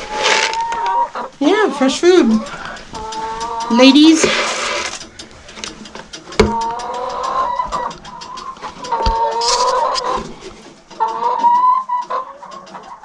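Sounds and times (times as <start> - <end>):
hens calling: 0.0 - 13.0.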